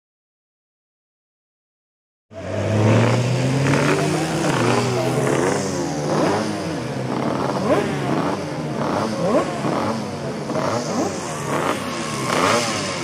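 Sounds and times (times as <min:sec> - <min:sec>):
racing motorcycles revving: 0:02.3 - 0:13.0.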